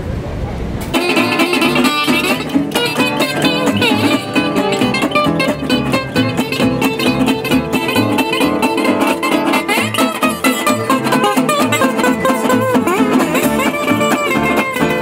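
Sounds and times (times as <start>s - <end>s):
plucked upright bass: 0.9s - 15.0s
slide guitar playing blues: 0.9s - 15.0s.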